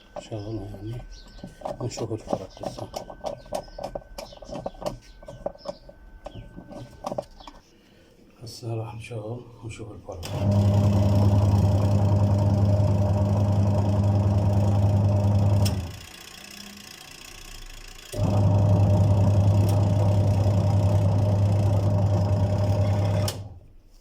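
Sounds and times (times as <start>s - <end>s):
washing machine motor hum: 0.0s - 7.6s, 9.7s - 23.8s.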